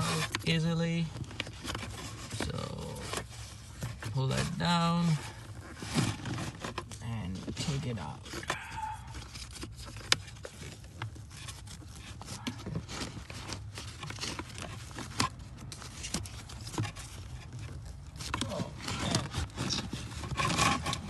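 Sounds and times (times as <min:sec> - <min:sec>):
filter rustling: 0:00.0 - 0:21.0
plastic clicks and scrapes: 0:00.0 - 0:21.0.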